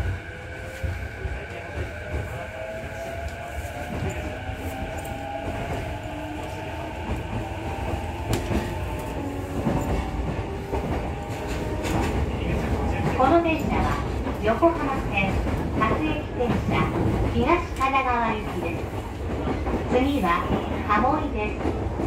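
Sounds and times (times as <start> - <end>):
wheels rumbling on rails: 0.0 - 22.0.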